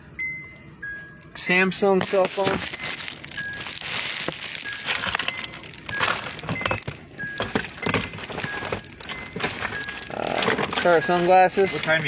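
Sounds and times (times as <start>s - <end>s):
phone handling noise: 2.0s - 12.0s.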